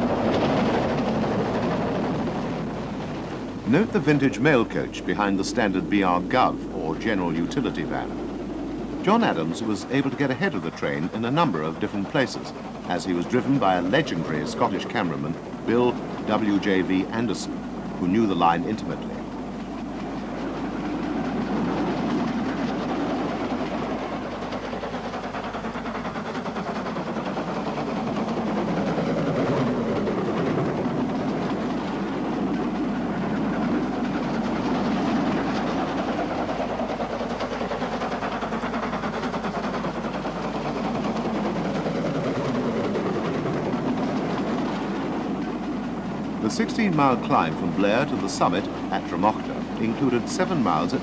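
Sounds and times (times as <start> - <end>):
steam locomotives exhaust and running: 0.0 - 51.0.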